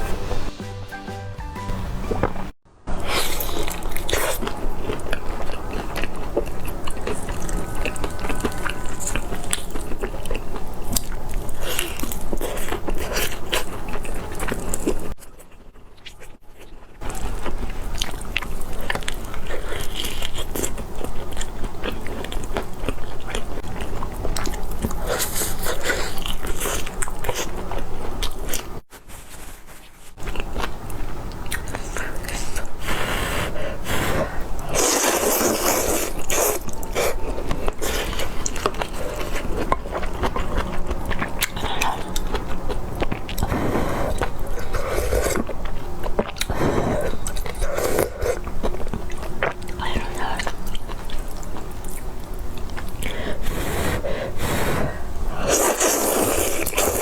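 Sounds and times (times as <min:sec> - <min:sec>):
crunchy food being chewed: 0:03.0 - 0:57.0.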